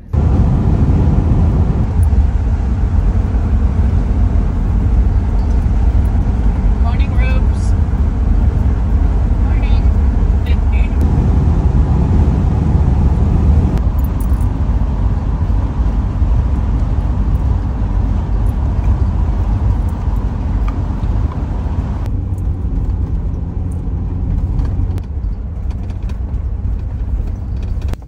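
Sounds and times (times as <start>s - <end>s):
van engine and tyre rumble: 0.0s - 28.0s.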